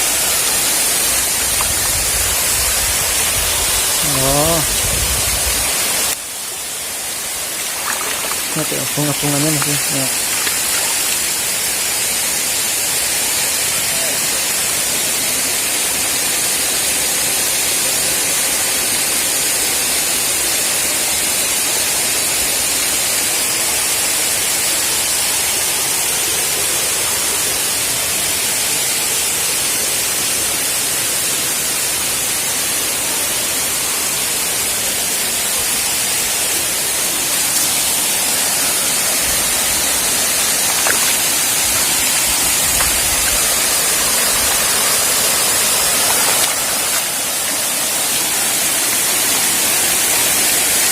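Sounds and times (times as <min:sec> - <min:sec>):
waterfall rushing: 0:00.0 - 0:22.4, 0:23.0 - 0:50.9.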